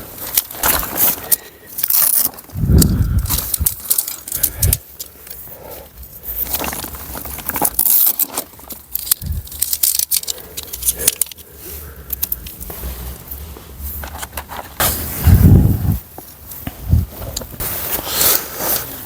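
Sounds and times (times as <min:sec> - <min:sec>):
objects clinking and scraping: 0:00.0 - 0:19.0.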